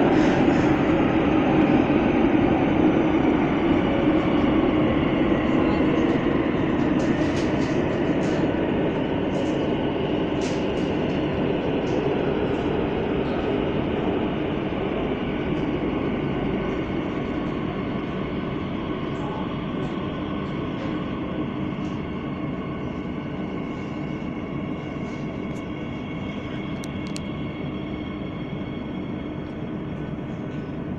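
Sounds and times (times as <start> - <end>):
train rumbling through tunnel: 0.0 - 30.9.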